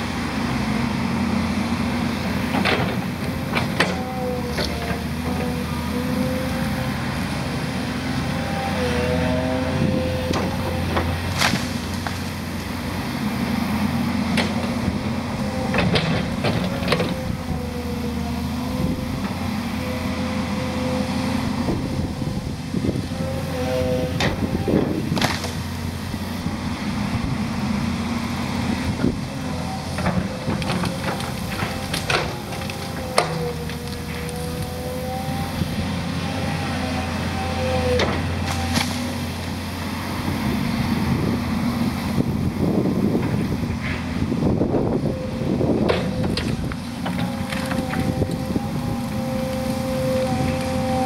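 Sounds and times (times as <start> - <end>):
excavator diesel engine under load: 0.0 - 51.0.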